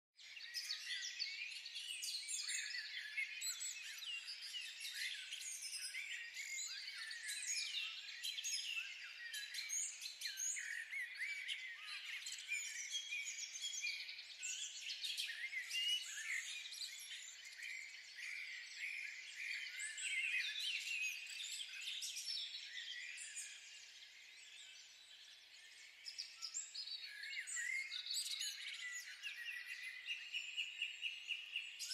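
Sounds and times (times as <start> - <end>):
small birds chirping: 0.2 - 31.9.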